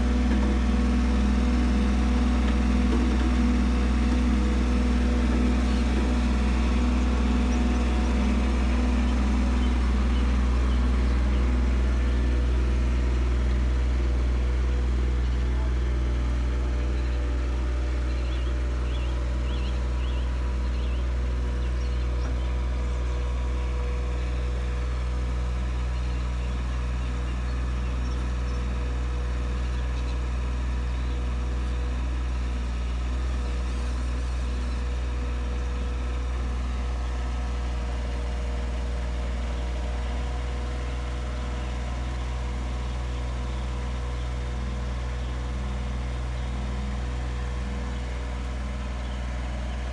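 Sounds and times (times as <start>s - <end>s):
truck diesel engine idling: 0.0s - 49.9s.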